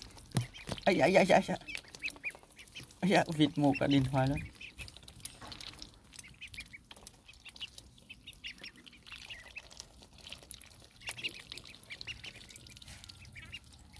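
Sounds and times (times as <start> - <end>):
bills splashing in water: 0.0 - 13.9
ducklings peeping: 0.0 - 13.9.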